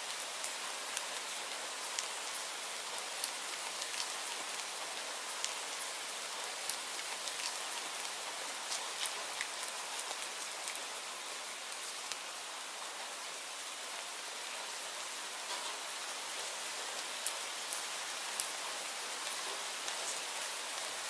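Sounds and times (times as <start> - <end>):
raindrops ticking on surface: 0.0 - 21.0
steady rainfall hiss: 0.0 - 21.0.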